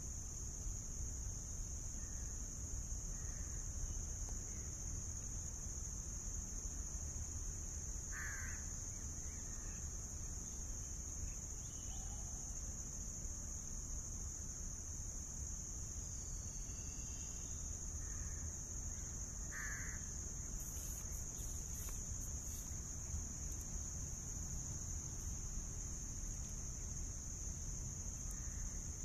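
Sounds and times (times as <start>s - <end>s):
insect chorus drone: 0.0s - 29.0s.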